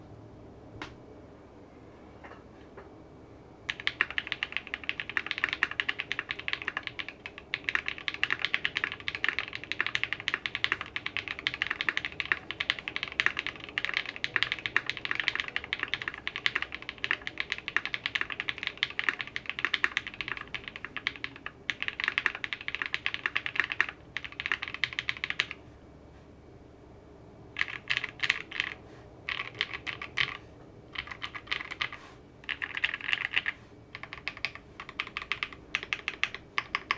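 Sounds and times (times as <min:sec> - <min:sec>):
fast typing on mechanical keyboard: 0:03.7 - 0:25.6, 0:27.6 - 0:36.9.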